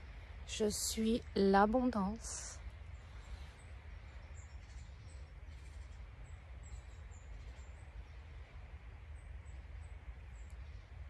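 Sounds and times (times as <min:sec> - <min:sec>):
steady low rumble: 0:00.0 - 0:11.0
small birds chirping: 0:00.4 - 0:11.0.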